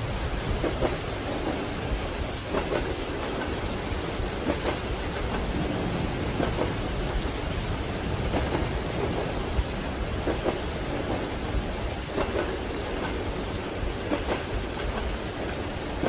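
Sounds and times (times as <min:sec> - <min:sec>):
steady rain: 0:00.0 - 0:16.0
train rumbling: 0:00.0 - 0:16.0
train wheels knocking: 0:00.4 - 0:16.0.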